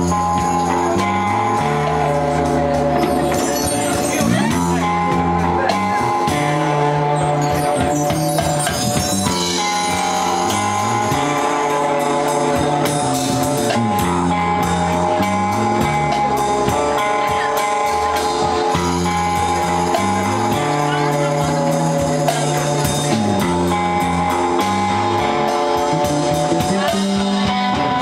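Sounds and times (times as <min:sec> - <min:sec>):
drum kit with ticking cymbals: 0:00.0 - 0:28.0
electric bass line: 0:00.0 - 0:28.0
electric guitar: 0:00.0 - 0:28.0.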